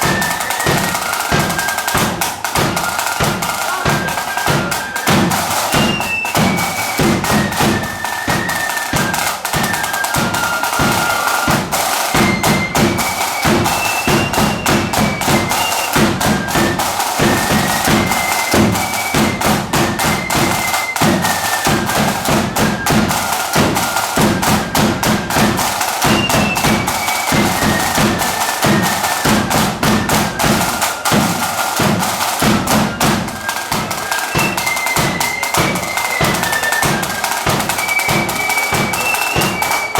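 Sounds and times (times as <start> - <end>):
flute melody: 0.0 - 39.9
snare and bass drums beating: 0.0 - 39.9.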